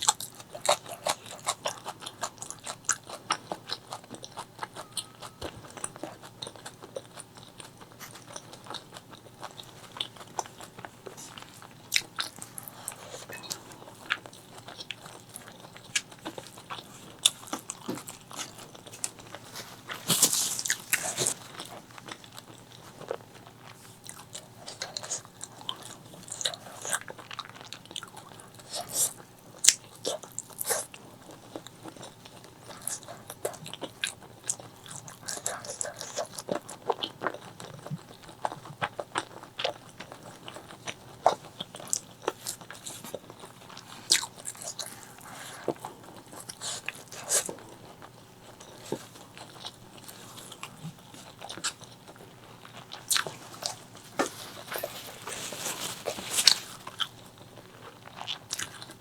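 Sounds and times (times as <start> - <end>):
wet crunchy chewing: 0.0 - 59.0.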